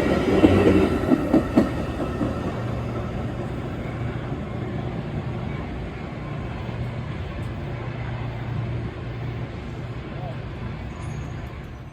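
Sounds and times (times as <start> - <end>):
outdoor background noise: 0.0 - 11.9.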